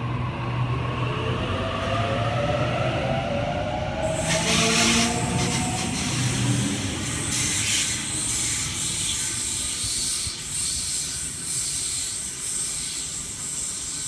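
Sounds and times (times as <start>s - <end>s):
electric train pulling away: 0.0s - 14.0s.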